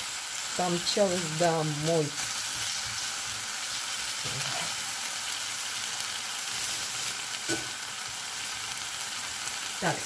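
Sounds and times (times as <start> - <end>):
vegetables sizzling in frying pan: 0.0 - 10.0.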